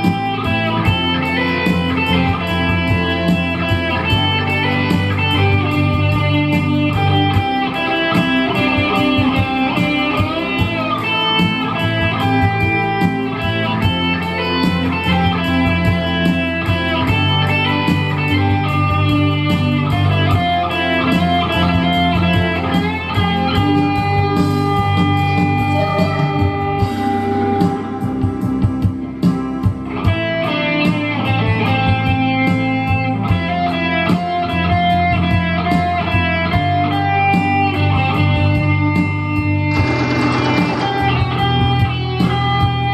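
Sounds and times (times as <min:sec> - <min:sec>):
steady bass: 0:00.0 - 0:33.7, 0:34.3 - 0:42.9
plucked guitar melody: 0:00.0 - 0:42.9.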